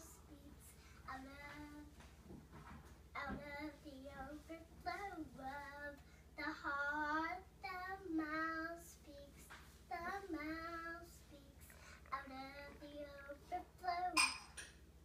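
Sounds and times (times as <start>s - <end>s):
child singing: 0.0s - 2.1s, 3.1s - 14.4s.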